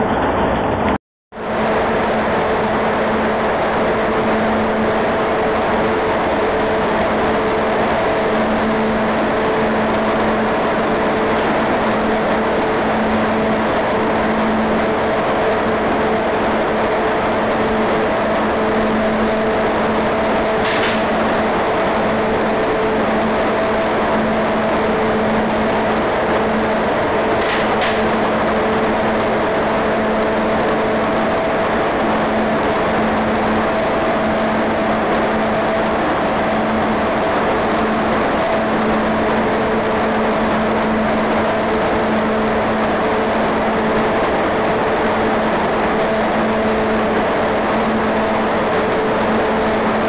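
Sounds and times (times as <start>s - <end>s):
freezing machine running: 0.0s - 50.0s.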